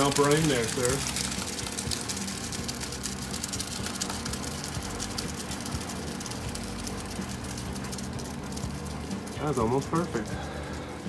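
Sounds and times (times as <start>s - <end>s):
wet cement pouring from bucket: 0.0s - 11.0s.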